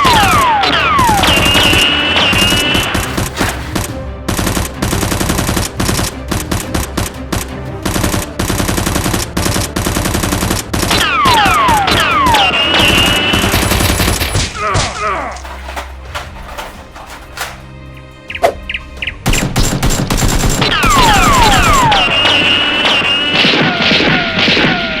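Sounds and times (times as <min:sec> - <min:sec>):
automatic gunfire: 0:00.0 - 0:14.4, 0:19.3 - 0:25.0.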